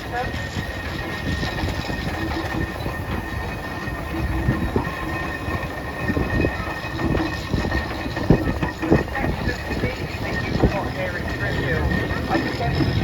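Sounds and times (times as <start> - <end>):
steam engine rumble: 0.0 - 13.0.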